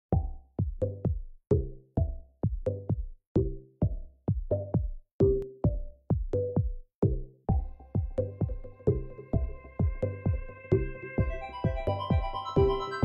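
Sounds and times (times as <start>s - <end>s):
electronic music with drum-machine beat: 0.1s - 13.0s.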